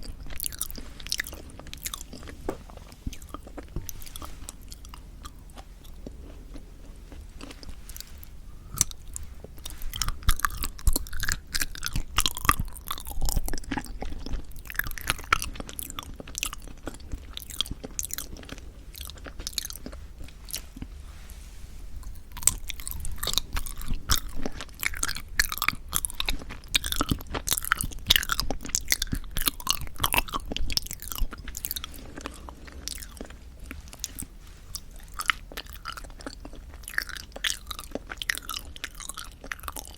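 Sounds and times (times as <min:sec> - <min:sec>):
person chewing soft jelly: 0:00.0 - 0:39.9.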